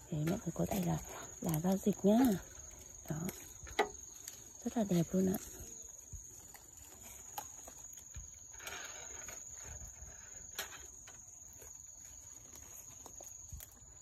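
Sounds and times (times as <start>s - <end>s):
insect high-pitched trill: 0.0s - 14.0s
soft rustle: 0.0s - 14.0s.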